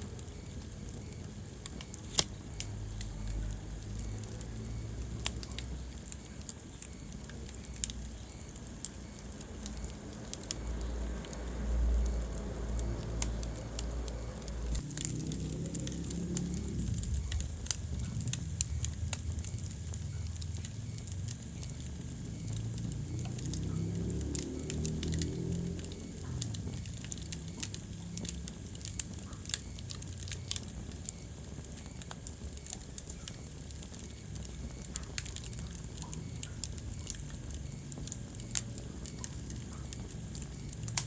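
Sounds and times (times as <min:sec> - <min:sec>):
low rumble of flame: 0:00.0 - 0:41.0
wood fire crackling and popping: 0:00.0 - 0:41.0.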